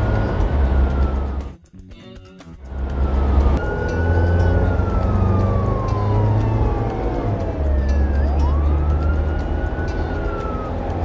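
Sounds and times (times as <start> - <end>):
police siren wail: 0.0 - 1.6, 2.7 - 11.0.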